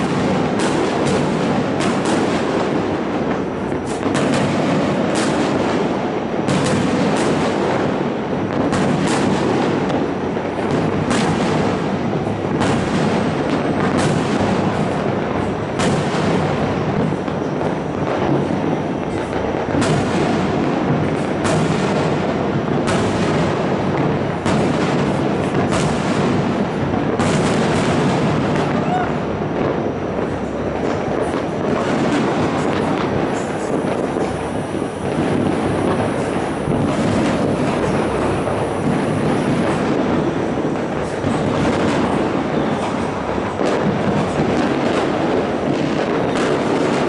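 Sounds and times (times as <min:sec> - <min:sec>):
fireworks crackling and rumbling: 0:00.0 - 0:47.0
sharp firework bangs: 0:00.0 - 0:47.0.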